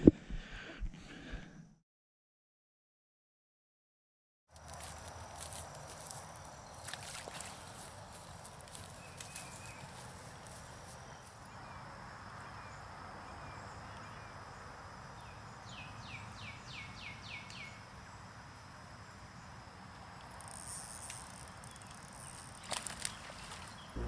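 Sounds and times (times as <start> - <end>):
high insect drone: 4.6 - 24.0.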